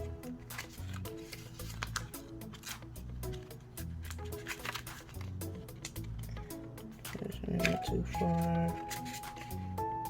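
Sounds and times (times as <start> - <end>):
melodic music over light beat: 0.0 - 10.0.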